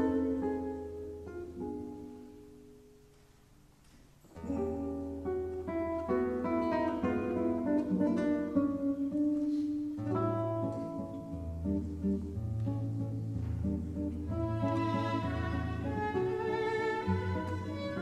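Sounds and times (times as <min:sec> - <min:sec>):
classical guitar waltz: 0:00.0 - 0:18.0.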